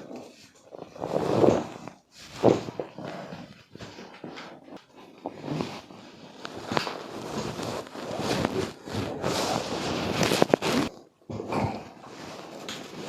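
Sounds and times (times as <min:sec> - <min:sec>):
clothing rustling on treatment table: 0:00.0 - 0:11.1, 0:11.9 - 0:13.0.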